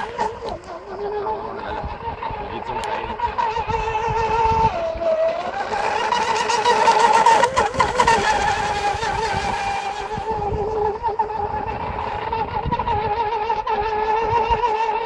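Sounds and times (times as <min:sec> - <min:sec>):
model powerboat engine high-pitched: 0:00.0 - 0:15.0.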